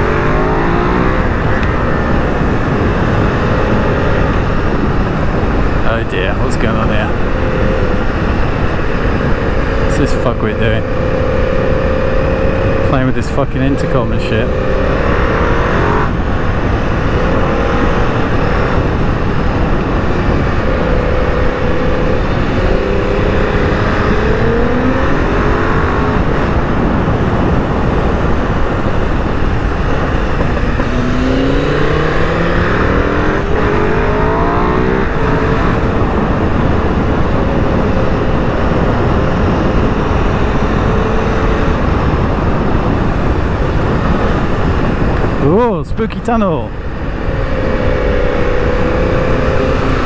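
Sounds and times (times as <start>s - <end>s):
motorcycle engine accelerating: 0.0s - 45.8s, 46.6s - 50.0s
wind noise on microphone: 0.0s - 45.8s, 46.6s - 50.0s.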